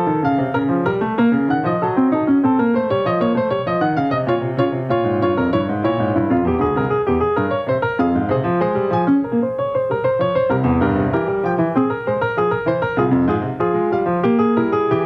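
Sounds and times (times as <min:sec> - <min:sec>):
piano music quick notes: 0:00.0 - 0:15.0.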